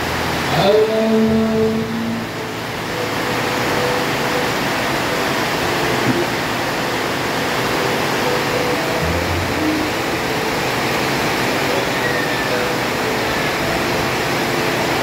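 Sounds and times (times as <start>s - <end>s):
heavy rain on pool: 0.0s - 15.0s.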